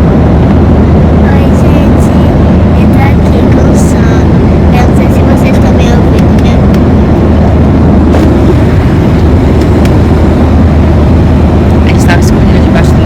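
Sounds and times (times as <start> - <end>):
airliner engines and rushing air: 0.0 - 13.0.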